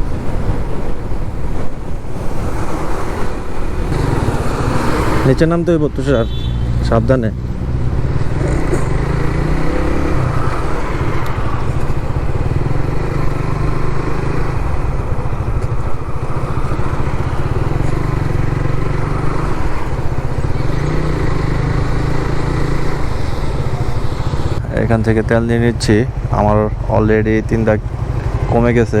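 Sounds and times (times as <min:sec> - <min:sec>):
motorcycle engine running: 0:00.0 - 0:29.0
road noise: 0:00.0 - 0:29.0.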